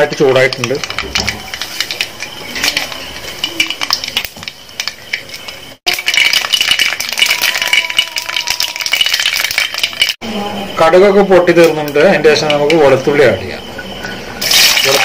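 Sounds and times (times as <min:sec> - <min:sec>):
mustard seeds popping in hot oil: 0:00.0 - 0:10.2, 0:11.6 - 0:13.0, 0:14.4 - 0:15.0.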